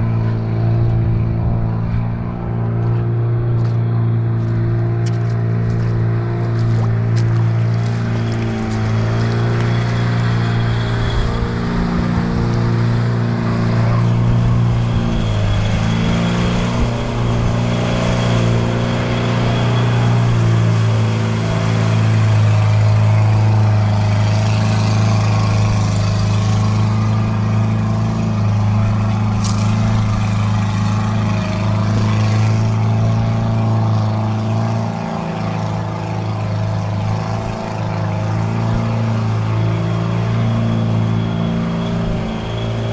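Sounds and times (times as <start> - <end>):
diesel engine droning under load: 0.0 - 42.9.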